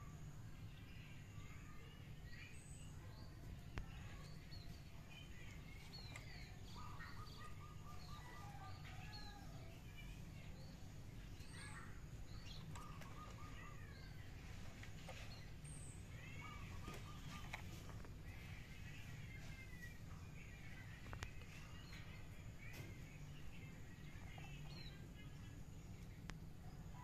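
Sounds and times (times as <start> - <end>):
small birds chirping and trilling: 0.0 - 27.0.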